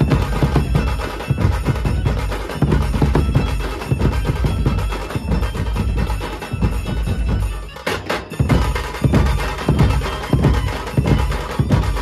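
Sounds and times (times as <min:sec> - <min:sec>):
drum band playing fast rhythm: 0:00.0 - 0:12.0.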